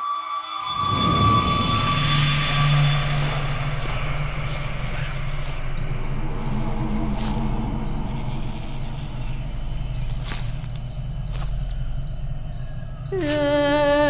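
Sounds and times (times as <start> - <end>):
low drone with deep rumble: 0.7 - 14.0.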